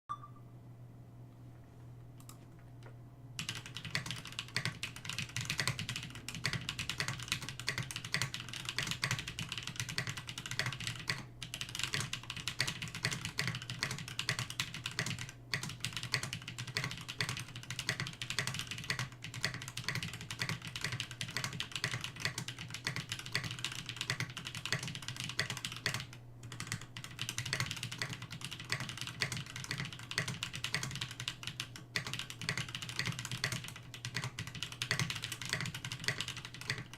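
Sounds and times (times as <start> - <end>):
low steady hum: 0.1 - 36.9
fast typing on mechanical keyboard: 3.4 - 36.9.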